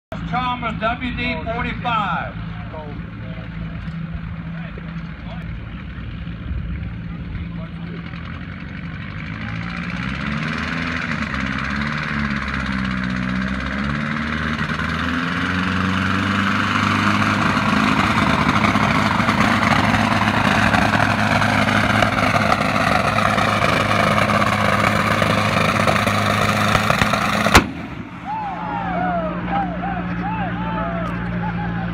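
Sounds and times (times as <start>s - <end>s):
tractor engine running hard: 0.1s - 31.9s.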